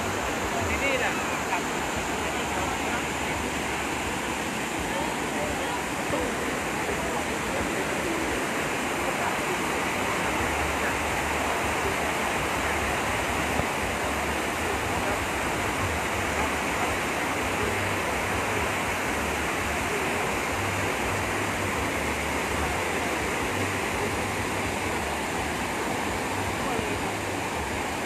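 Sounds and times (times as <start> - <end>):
rushing stream water: 0.0 - 28.0.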